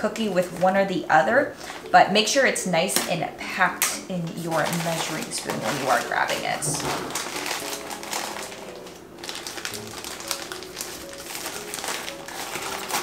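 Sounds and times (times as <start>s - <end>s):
light background music: 0.0s - 13.0s.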